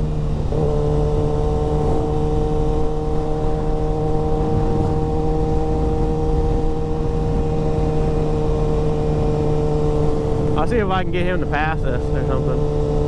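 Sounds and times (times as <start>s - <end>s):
wind rumble on microphone: 0.0s - 11.2s
motorcycle engine cruising: 0.0s - 13.0s.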